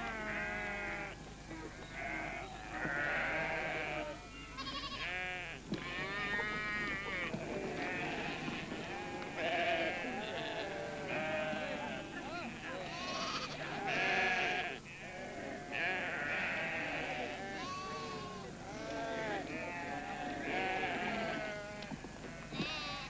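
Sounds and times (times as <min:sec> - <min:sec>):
sheep bleating: 0:00.0 - 0:01.2, 0:01.8 - 0:23.0.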